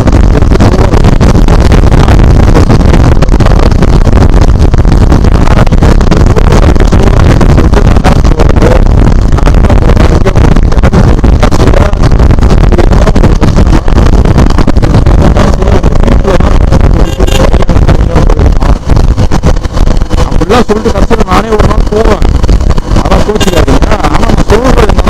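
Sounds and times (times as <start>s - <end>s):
loud wind rush: 0.0s - 25.0s.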